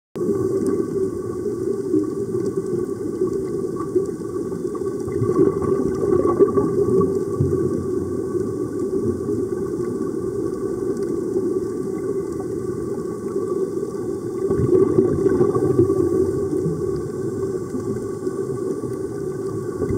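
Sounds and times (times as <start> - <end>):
underwater air bubbling: 0.2 - 19.9.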